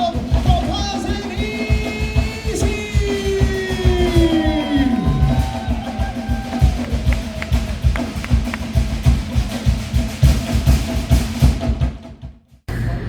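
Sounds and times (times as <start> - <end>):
low drum thumps: 1.7 - 12.5.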